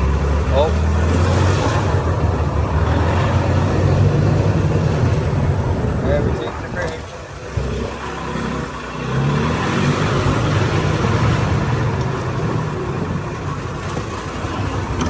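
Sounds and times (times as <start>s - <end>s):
golf cart engine running: 0.0s - 15.0s.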